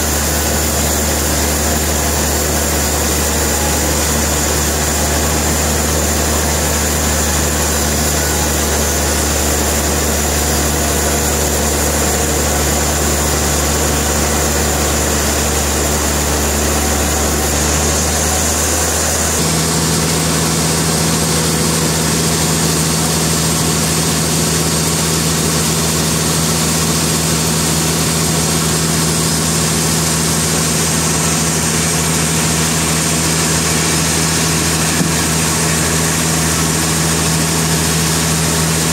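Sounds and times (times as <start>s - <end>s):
sawmill machinery engine running: 0.0s - 38.9s.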